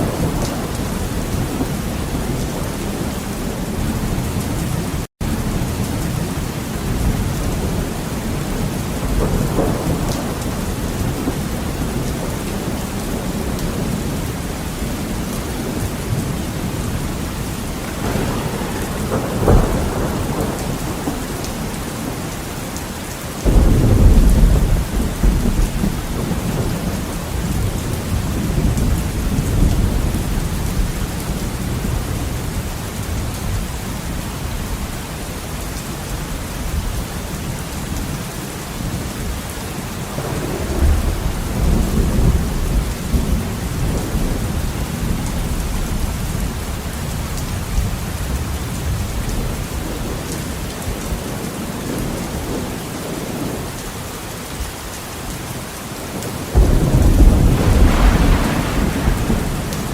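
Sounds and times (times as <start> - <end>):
thunder rumbling: 0.0 - 34.9, 40.0 - 53.8, 56.2 - 59.9
heavy rain on a window: 0.0 - 59.9.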